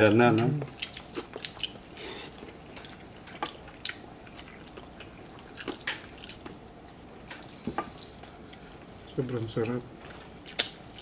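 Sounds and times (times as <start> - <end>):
chewing and wet mouth sounds: 0.0 - 11.0.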